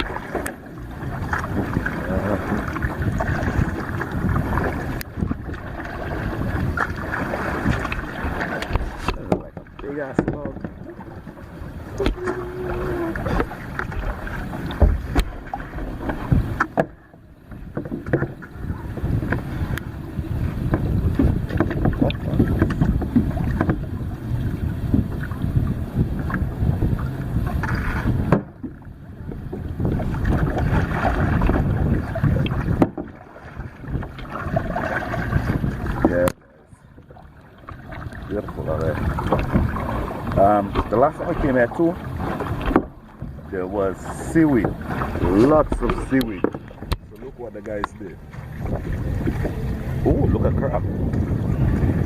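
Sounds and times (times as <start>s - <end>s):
kayak paddle splashing: 0.0s - 52.0s
water sloshing against hull: 0.0s - 52.0s
wind rumble on microphone: 0.0s - 52.0s.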